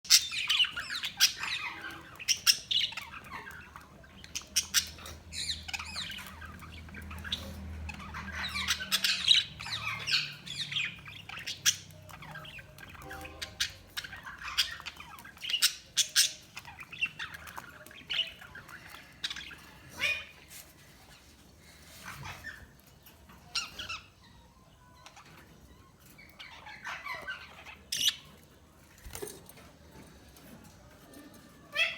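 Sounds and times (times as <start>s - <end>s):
budgies chirping and squawking: 0.0s - 31.9s.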